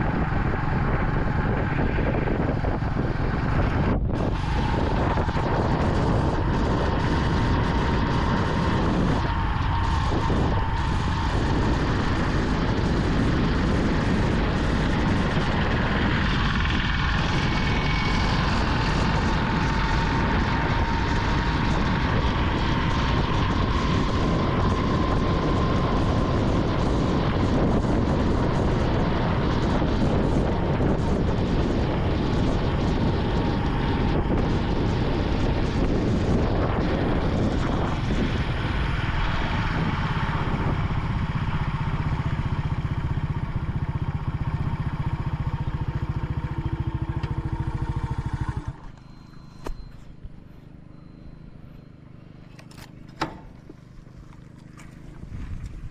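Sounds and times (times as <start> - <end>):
wind rushing: 0.0 - 48.6
motorcycle engine running: 0.0 - 55.9
tyres on wet road: 0.0 - 55.9.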